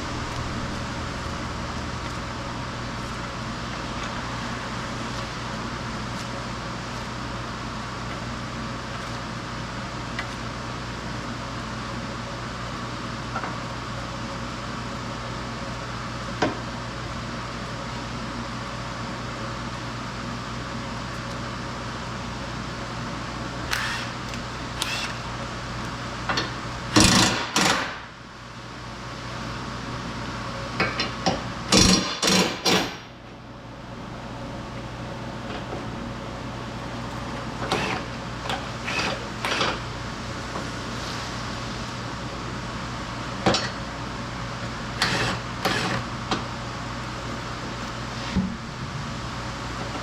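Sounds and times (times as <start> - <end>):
workshop hum: 0.0 - 50.0.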